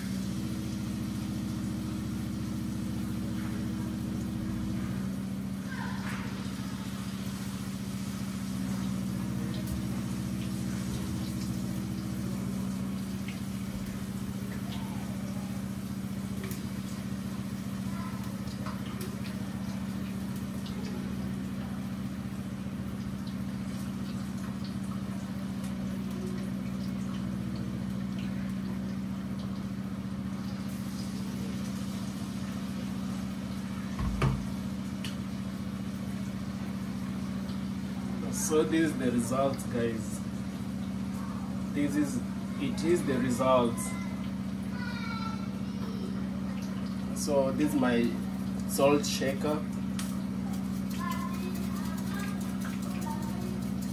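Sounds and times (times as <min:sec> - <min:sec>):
food deep-frying in oil: 0:00.0 - 0:53.9
low mechanical hum: 0:00.0 - 0:53.9.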